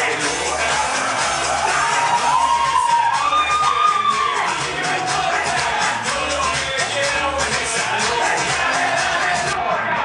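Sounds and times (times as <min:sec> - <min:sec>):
upbeat dance music with singing: 0:00.0 - 0:10.0.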